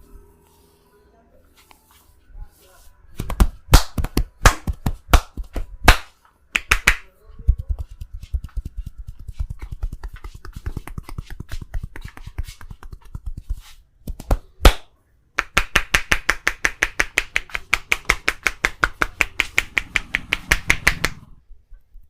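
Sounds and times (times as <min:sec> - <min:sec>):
hands chopping massage strokes: 0:03.1 - 0:21.4.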